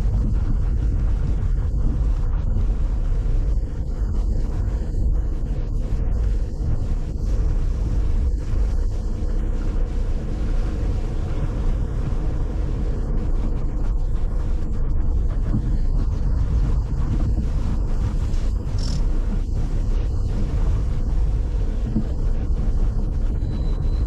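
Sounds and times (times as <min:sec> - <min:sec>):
vehicle road and engine rumble: 0:00.0 - 0:24.0
wind buffeting microphone: 0:00.0 - 0:24.0.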